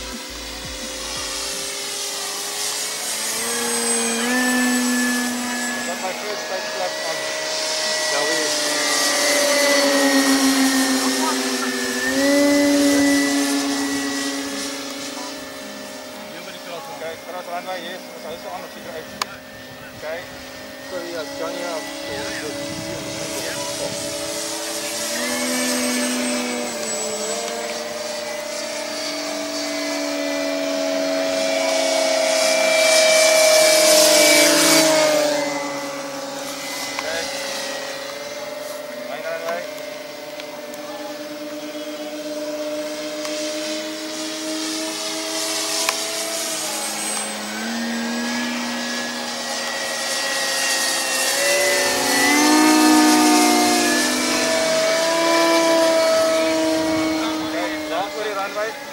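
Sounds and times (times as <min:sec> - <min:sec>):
model plane motors whining: 0:00.0 - 0:58.9.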